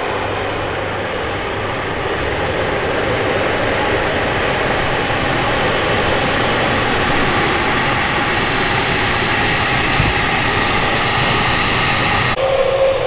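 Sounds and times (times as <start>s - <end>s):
aircraft engines running: 0.0s - 13.0s.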